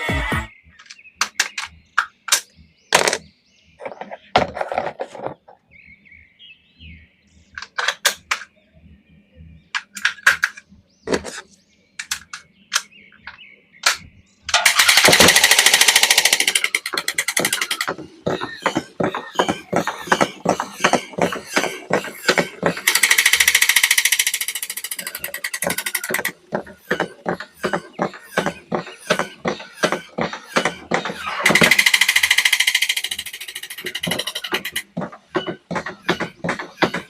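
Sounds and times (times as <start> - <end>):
plastic toys clicking and knocking: 0.8 - 5.6, 7.5 - 8.5, 9.7 - 37.0.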